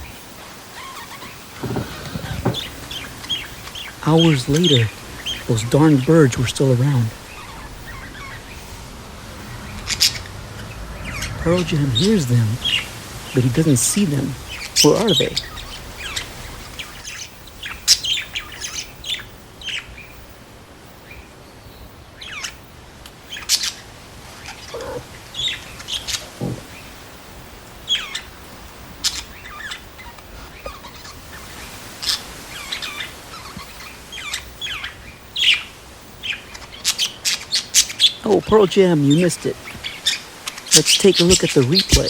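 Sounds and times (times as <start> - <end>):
lower falling calls: 0.0 - 42.0
small birds chirping: 0.0 - 42.0.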